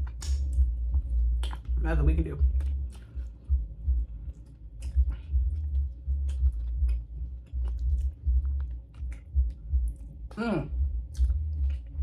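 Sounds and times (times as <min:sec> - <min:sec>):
wet chewing: 0:00.0 - 0:01.8, 0:02.5 - 0:12.0
bass thudding of loud music: 0:00.0 - 0:10.0.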